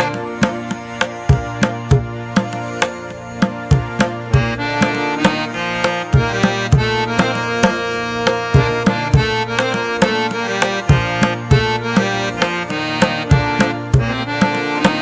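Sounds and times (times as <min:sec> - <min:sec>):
steady drum beat: 0:00.0 - 0:15.0
sustained melodic tones: 0:00.0 - 0:15.0.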